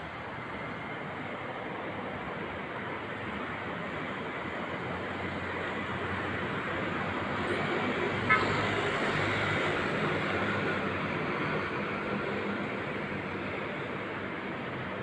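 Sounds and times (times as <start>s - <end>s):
road traffic hiss: 0.0s - 15.0s.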